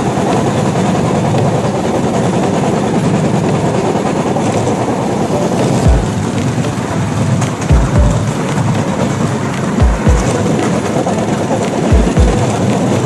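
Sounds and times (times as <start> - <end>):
wheels on rail track: 0.0 - 13.0.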